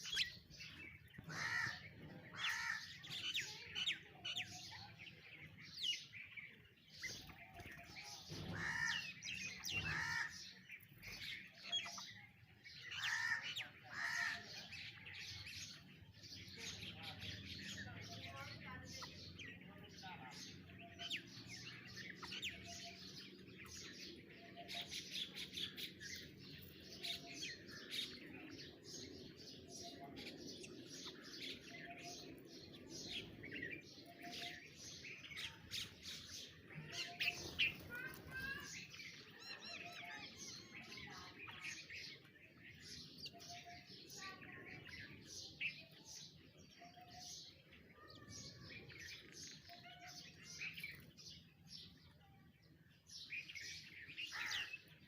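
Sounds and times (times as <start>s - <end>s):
many birds chirping: 0.0s - 55.0s.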